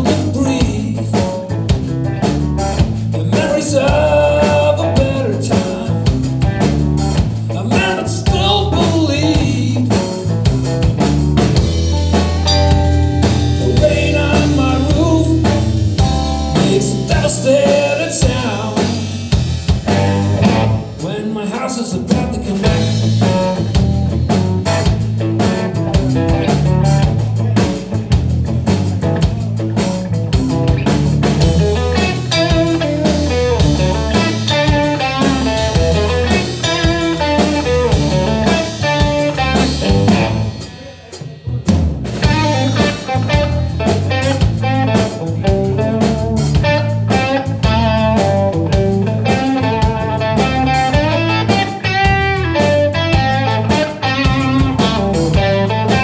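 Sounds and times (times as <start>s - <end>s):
bass: 0.0s - 56.0s
drum kit: 0.0s - 56.0s
guitar melody: 0.0s - 56.0s.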